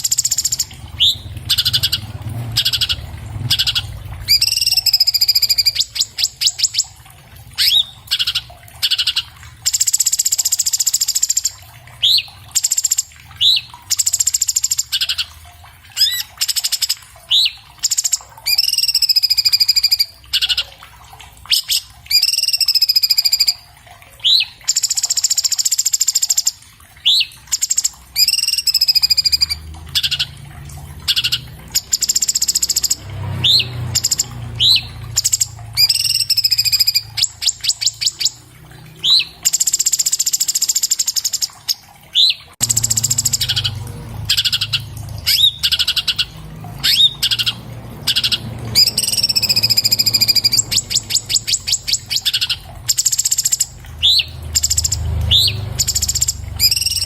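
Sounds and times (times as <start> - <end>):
bird singing fast song: 0.0 - 7.0, 7.6 - 15.3, 16.0 - 20.7, 21.5 - 23.6, 24.2 - 30.4, 31.0 - 38.4, 39.0 - 57.0.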